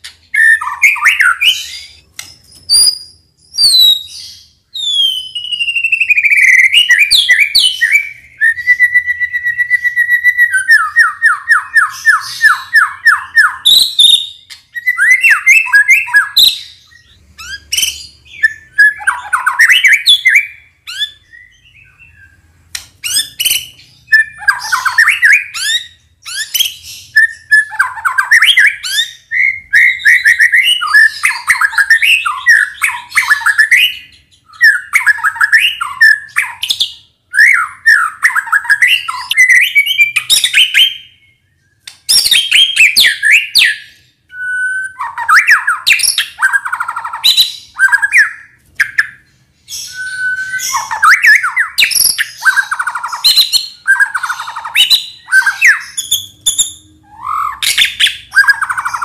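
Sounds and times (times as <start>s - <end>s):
bird singing whistles and chatter: 0.3s - 22.4s, 23.0s - 59.0s.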